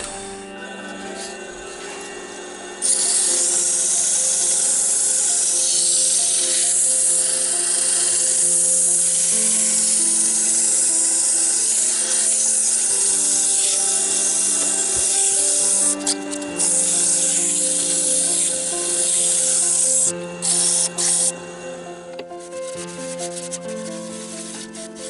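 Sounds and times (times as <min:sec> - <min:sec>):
sandpaper hissing on turning wood: 0:00.0 - 0:02.1, 0:02.7 - 0:21.4, 0:22.1 - 0:25.0
background music with held notes: 0:00.0 - 0:25.0.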